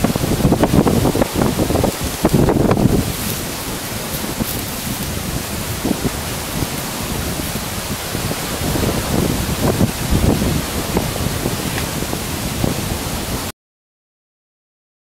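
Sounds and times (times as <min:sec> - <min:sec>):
wind buffeting microphone: 0:00.0 - 0:13.5
wind through forest: 0:00.0 - 0:13.5.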